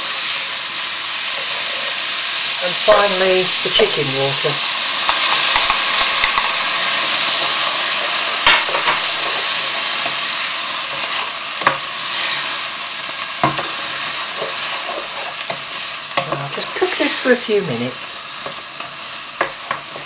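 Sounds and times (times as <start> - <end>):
food sizzling in a hot pan: 0.0 - 20.0.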